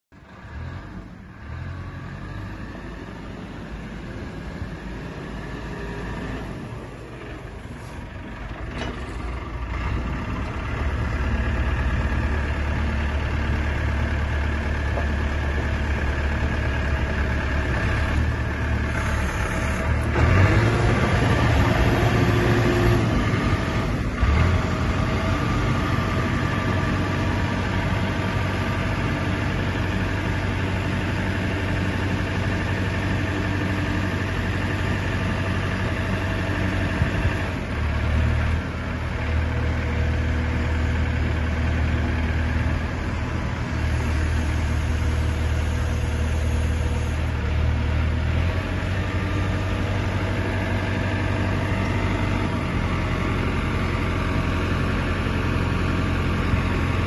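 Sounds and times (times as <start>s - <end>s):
diesel engine running: 0.1s - 57.0s.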